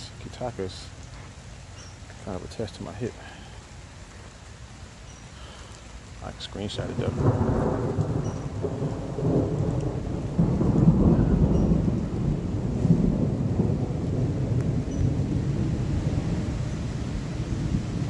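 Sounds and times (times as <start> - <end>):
rain on wet microphone: 0.0 - 18.0.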